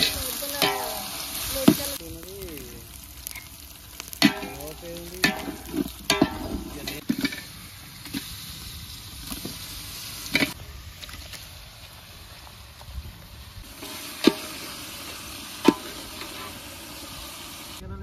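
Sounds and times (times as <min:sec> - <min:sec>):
onions sizzling in oil: 0:00.0 - 0:17.8.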